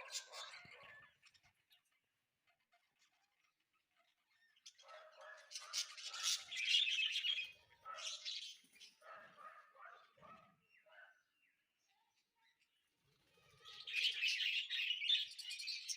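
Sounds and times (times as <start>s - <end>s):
birds chirping harsh calls: 0.0s - 11.6s, 12.4s - 15.9s.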